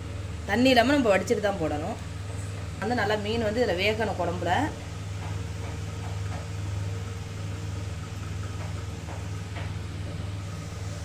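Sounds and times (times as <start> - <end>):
exhaust fan hum: 0.0 - 11.0.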